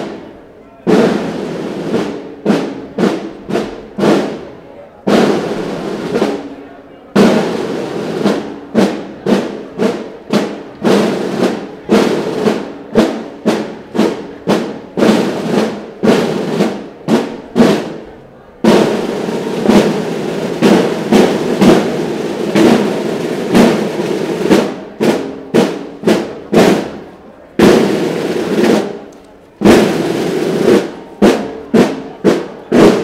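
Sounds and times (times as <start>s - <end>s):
marching snare drums: 0.0s - 33.0s.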